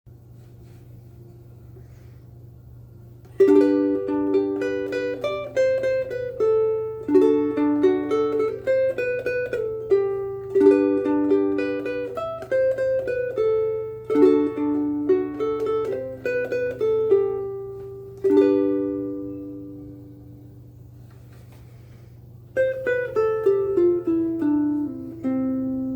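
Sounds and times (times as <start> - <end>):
low steady hum: 0.1 - 25.9
ukulele playing: 3.2 - 20.6, 22.5 - 25.9.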